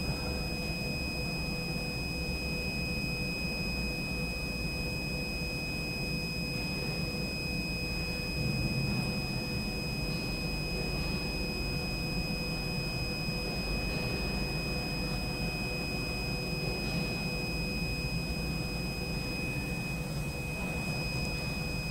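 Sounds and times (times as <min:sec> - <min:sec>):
high-pitched electronic whine: 0:00.0 - 0:21.9.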